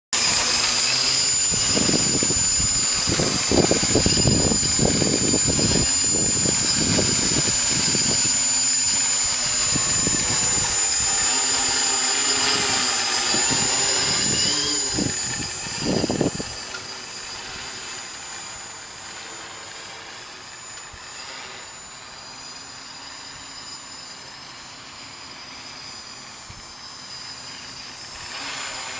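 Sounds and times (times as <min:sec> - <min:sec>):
machine with high whine: 0:00.1 - 0:28.9.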